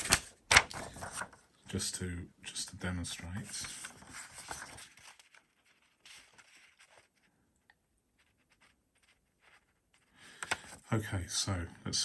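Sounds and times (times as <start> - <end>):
faint paper rustling: 0.0 - 1.9, 2.5 - 11.0.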